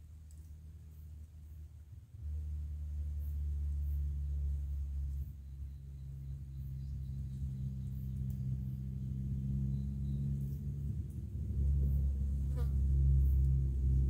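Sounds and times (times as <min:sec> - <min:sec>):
low droning hum with gong ring: 0:02.2 - 0:14.0.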